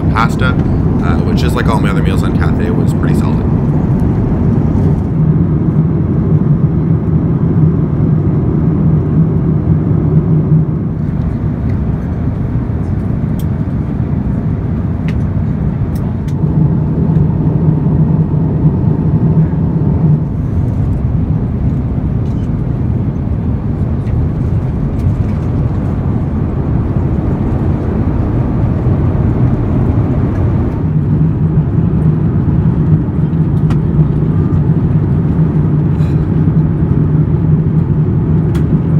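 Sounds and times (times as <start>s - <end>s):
engine and airflow rush: 0.0s - 38.9s
low hum: 0.0s - 38.9s.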